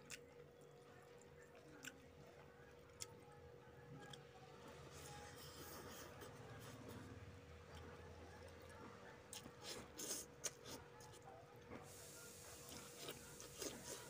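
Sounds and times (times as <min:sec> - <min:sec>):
faint chewing: 0:00.0 - 0:14.0
faint steady hum: 0:00.0 - 0:14.0.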